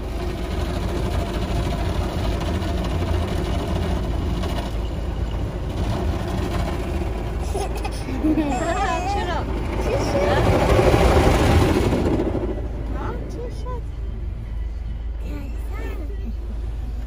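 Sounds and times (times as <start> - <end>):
car wash low rumble: 0.0 - 17.0.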